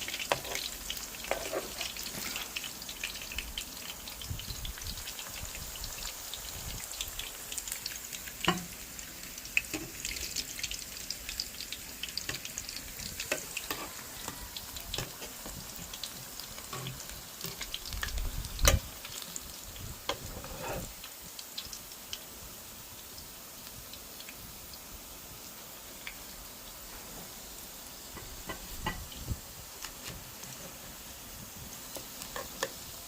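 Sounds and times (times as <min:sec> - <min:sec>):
hot oil sizzling: 0:00.0 - 0:33.0.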